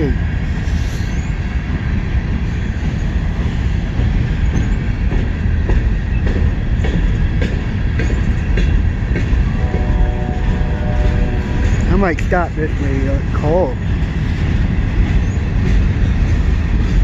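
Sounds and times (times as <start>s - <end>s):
train cars rumbling: 0.0s - 17.0s.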